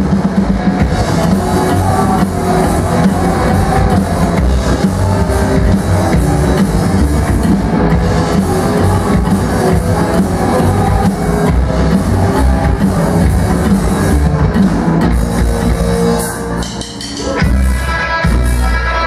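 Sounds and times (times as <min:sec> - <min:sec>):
upright double bass: 0:00.0 - 0:15.8
electric guitar: 0:00.0 - 0:16.6
drum kit: 0:00.0 - 0:19.0.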